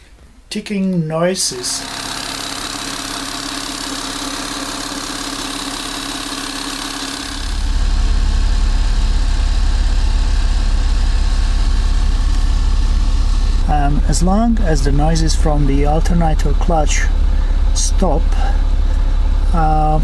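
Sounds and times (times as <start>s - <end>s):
diesel engine idling: 1.8s - 20.0s.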